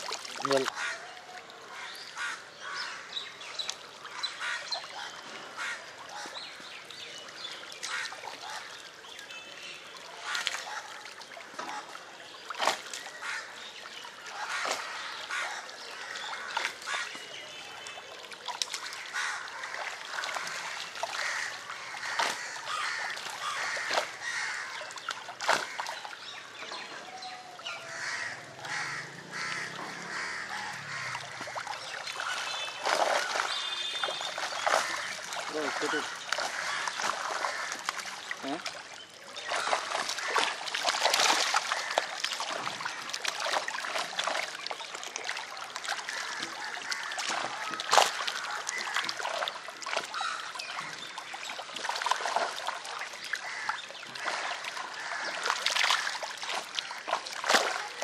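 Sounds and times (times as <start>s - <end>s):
sharp splashes: 0.0s - 2.4s, 9.9s - 26.3s, 27.6s - 58.0s
fish splashing and slurping: 0.0s - 58.0s.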